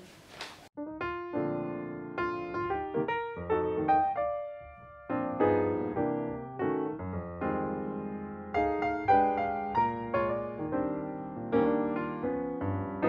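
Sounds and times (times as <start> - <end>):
piano notes and chords: 0.8 - 13.0.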